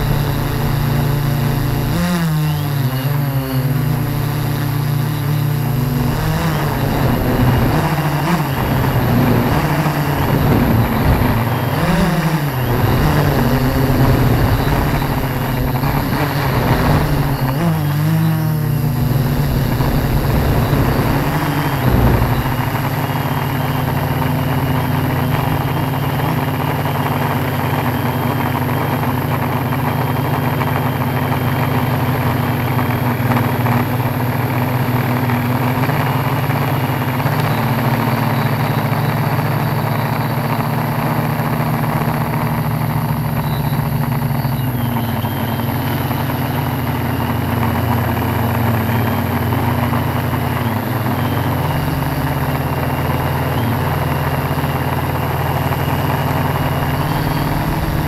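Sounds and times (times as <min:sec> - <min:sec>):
drone motors humming: 0:00.0 - 0:36.3, 0:37.2 - 0:58.0.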